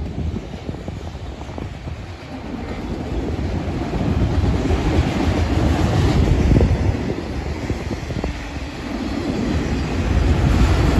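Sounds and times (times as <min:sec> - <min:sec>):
freight train wheels rumbling on rail: 0:00.0 - 0:10.9.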